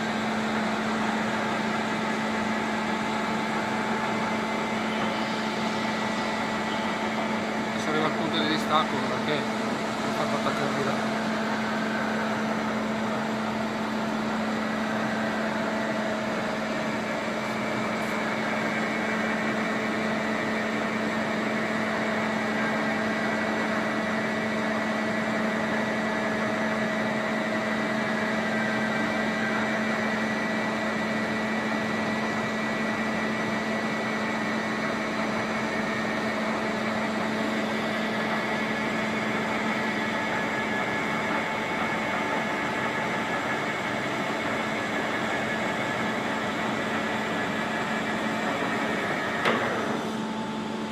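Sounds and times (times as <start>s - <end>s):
milling machine humming: 0.0s - 50.9s.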